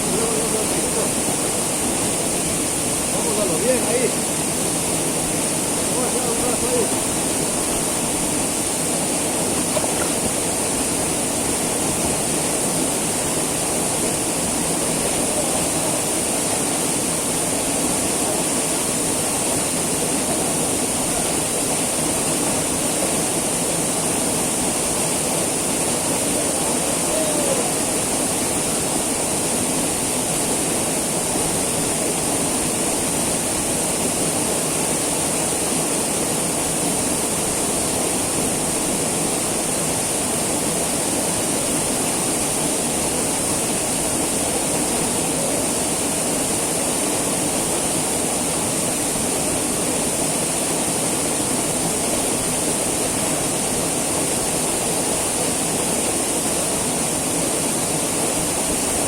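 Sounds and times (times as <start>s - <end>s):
small waterfall pouring: 0.0s - 59.0s.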